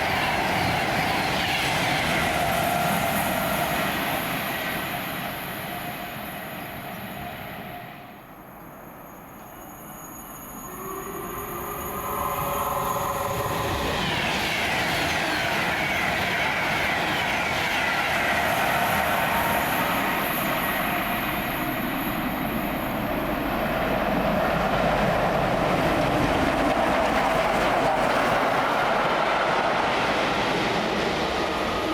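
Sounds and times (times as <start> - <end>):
train passing: 0.0 - 31.9.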